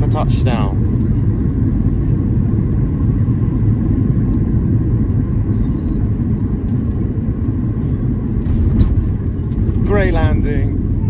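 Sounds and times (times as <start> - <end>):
airplane cabin low rumble: 0.0 - 11.0.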